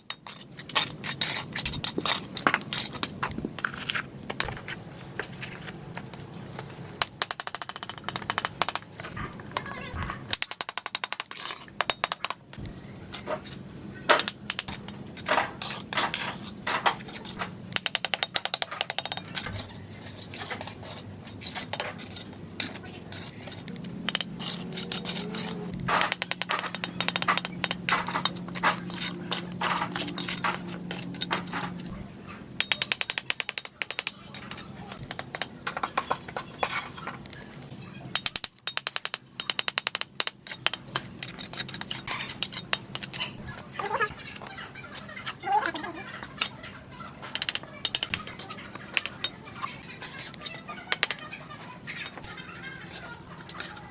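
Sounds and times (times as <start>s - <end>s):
trowel clinking and scraping bricks: 0.0s - 37.4s, 38.1s - 53.9s.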